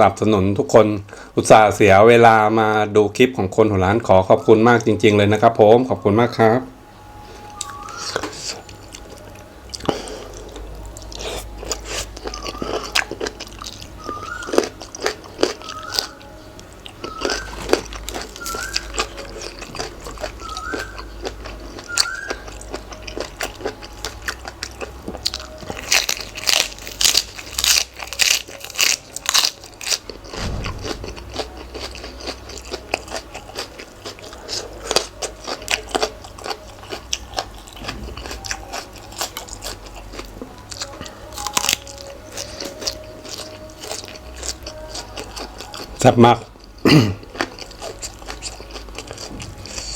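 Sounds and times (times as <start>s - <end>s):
person chewing crunchy food: 7.3s - 49.9s.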